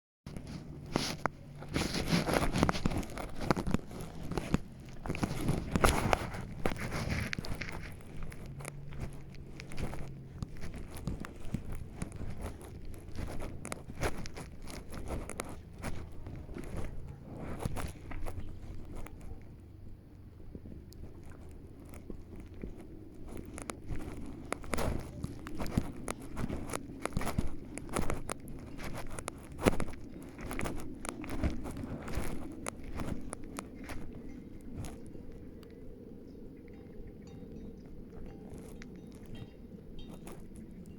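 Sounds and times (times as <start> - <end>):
footsteps crunching on forest trail: 0.3 - 36.0, 36.6 - 40.9
twigs crackling and snapping: 0.3 - 40.9.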